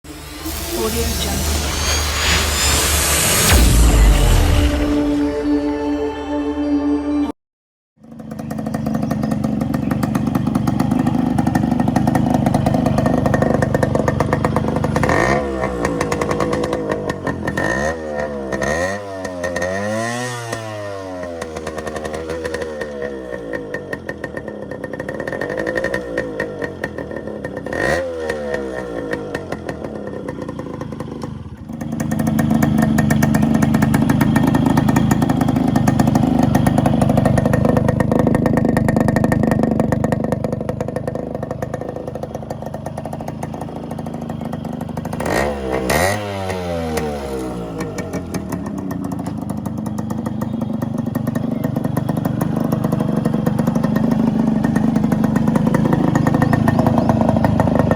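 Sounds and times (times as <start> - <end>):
two-stroke engine revving: 0.0 - 4.6, 8.0 - 57.9.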